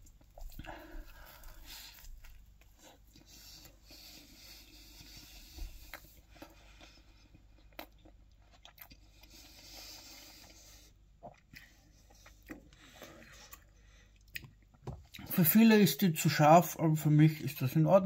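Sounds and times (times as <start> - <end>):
person chewing pizza: 0.0 - 15.4.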